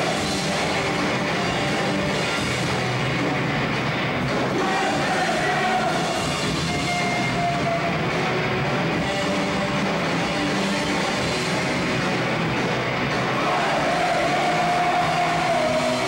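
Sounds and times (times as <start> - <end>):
distorted thrash metal band: 0.0 - 16.0.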